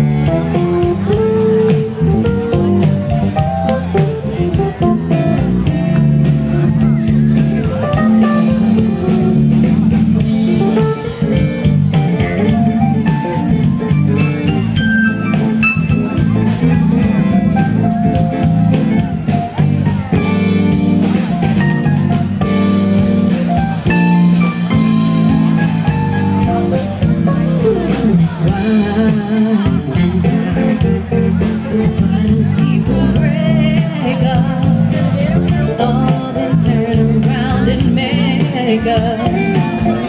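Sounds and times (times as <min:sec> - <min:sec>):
drums: 0:00.0 - 0:40.0
guitar: 0:00.0 - 0:40.0
live band music: 0:00.0 - 0:40.0.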